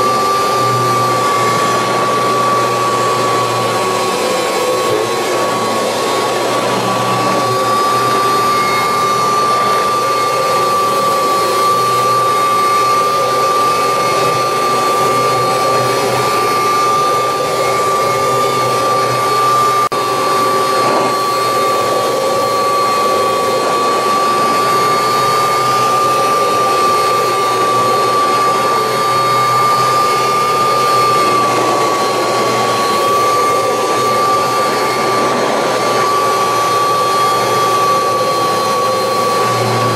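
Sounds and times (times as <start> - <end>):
vacuum cleaner motor whining: 0.0 - 39.9
vacuum suction on carpet: 0.0 - 39.9.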